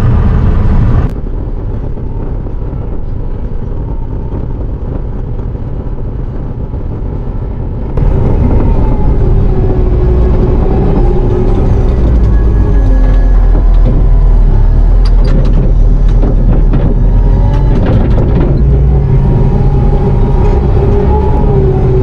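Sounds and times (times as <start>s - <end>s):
diesel engine running: 0.0s - 22.0s
wavering whine: 0.9s - 22.0s.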